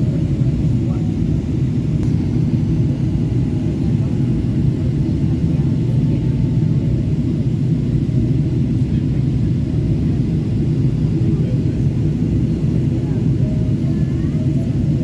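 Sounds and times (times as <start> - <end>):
airplane cabin drone: 0.0 - 15.0.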